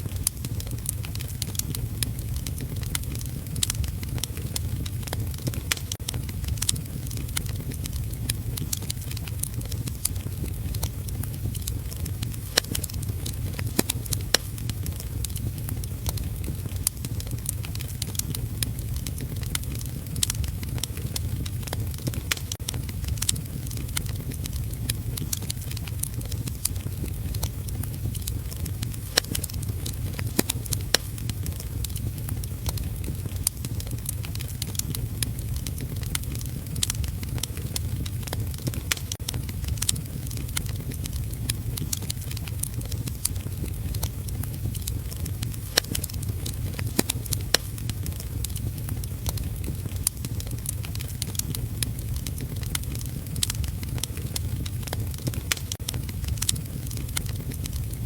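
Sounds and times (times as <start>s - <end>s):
low rumble: 0.0s - 58.0s
wood fire crackling: 0.0s - 58.0s.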